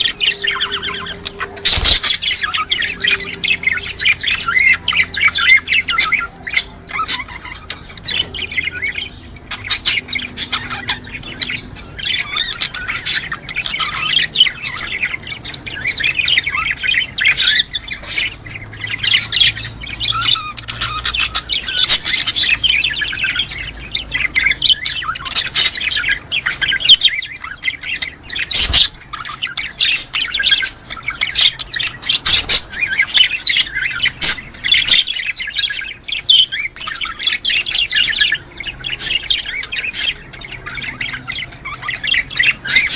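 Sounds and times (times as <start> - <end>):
parrots chattering and squawking: 0.0 - 42.9.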